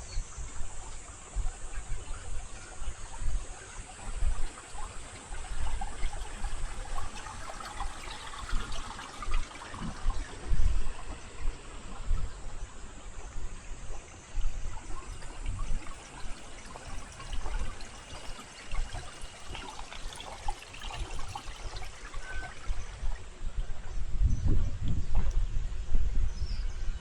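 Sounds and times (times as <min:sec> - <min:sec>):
stream trickling and flowing: 0:00.0 - 0:27.0.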